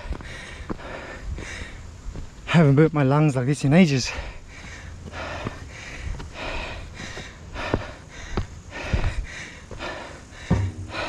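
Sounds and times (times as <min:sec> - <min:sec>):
man breathing hard: 0:00.0 - 0:02.1, 0:04.0 - 0:11.0.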